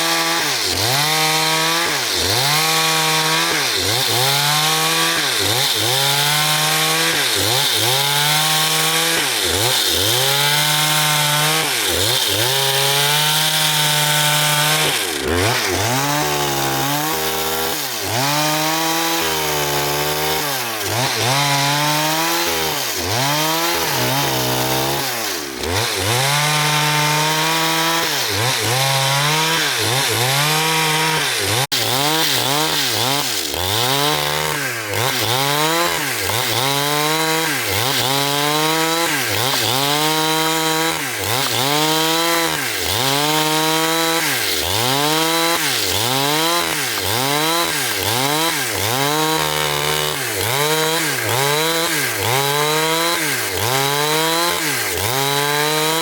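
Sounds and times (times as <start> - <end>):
power saw cutting wood: 0.0 - 56.0.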